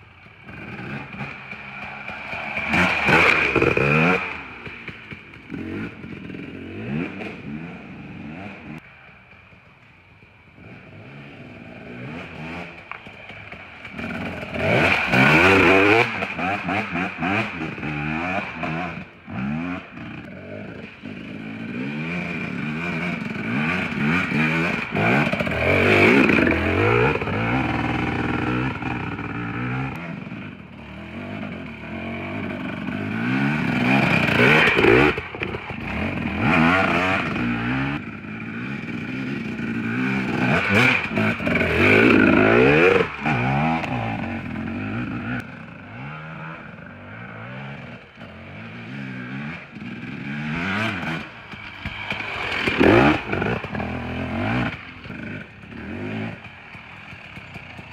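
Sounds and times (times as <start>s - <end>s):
dirt bike engine revving: 0.4s - 8.8s, 10.6s - 57.9s.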